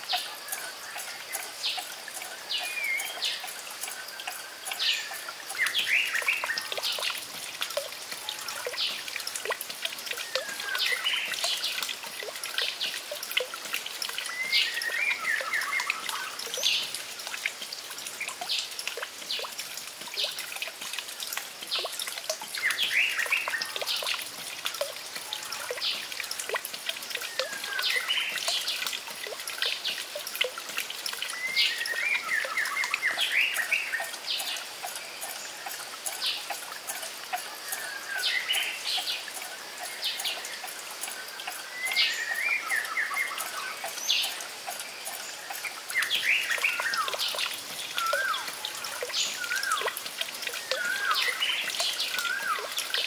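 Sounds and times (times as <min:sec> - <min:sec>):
trickle of running water: 0:00.0 - 0:53.0.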